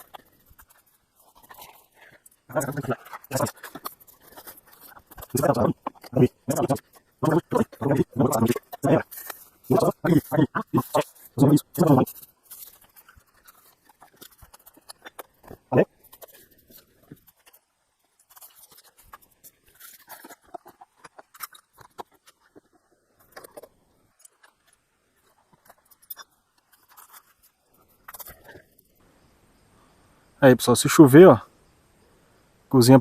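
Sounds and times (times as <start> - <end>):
handling rustling and scraping: 0.0 - 29.0.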